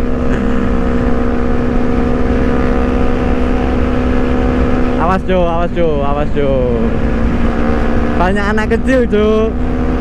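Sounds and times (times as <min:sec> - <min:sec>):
motorcycle engine droning: 0:00.0 - 0:10.0
wind rushing over microphone: 0:00.7 - 0:08.8.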